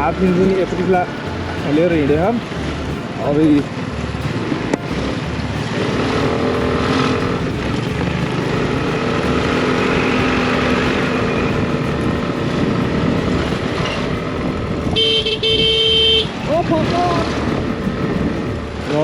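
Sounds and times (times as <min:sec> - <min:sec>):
road and wind noise: 0:00.0 - 0:19.0
scooter engine running: 0:00.0 - 0:19.0.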